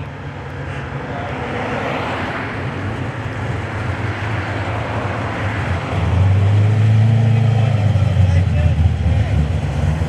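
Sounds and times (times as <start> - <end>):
outdoor noise: 0.0 - 10.0.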